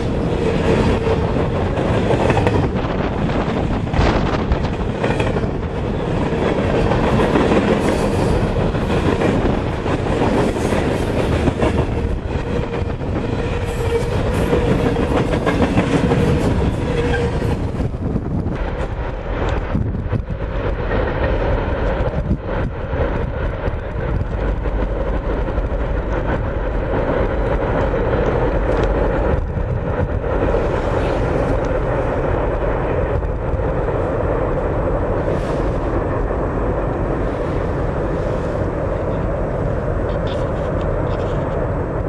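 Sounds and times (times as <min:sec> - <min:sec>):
freight train rumbling: 0:00.0 - 0:42.0.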